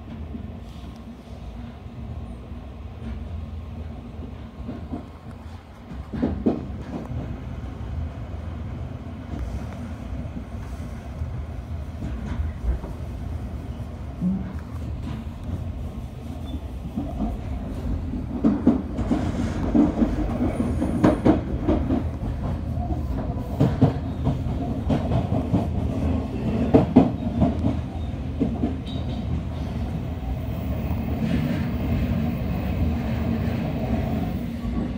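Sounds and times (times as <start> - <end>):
train rumble: 0.0 - 34.9.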